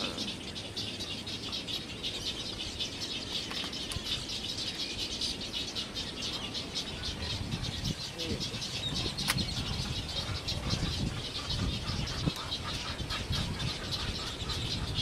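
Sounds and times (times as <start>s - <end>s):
many birds chattering: 0.0s - 15.0s.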